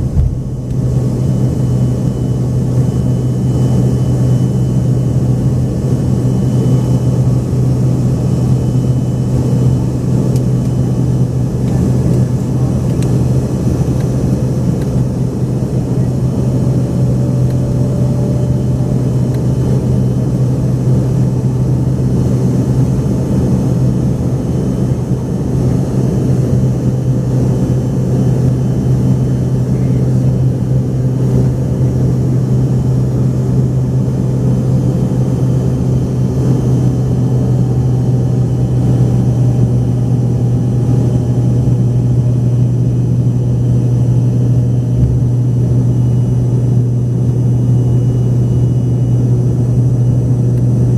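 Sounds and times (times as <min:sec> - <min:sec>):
jet engines droning in cabin: 0:00.0 - 0:50.9.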